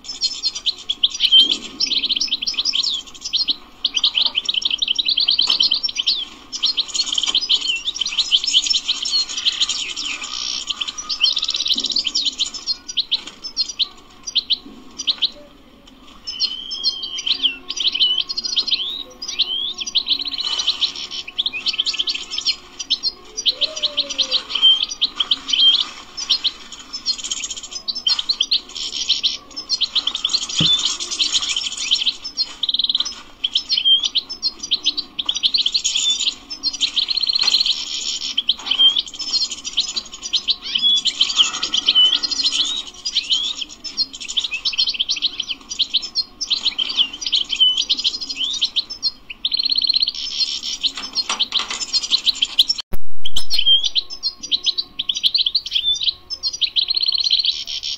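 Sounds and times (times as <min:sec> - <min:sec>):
goldfinch singing: 0:00.0 - 0:15.4, 0:16.0 - 0:57.9.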